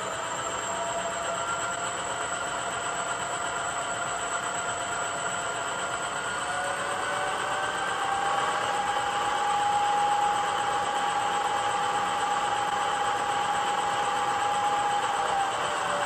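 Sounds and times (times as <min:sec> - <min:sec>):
steady whine: 0:00.0 - 0:16.0.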